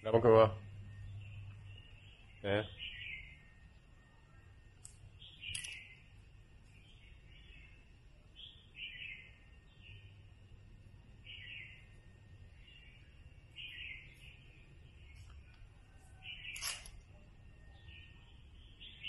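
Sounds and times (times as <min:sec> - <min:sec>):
faint bird chirps: 0:00.1 - 0:19.0.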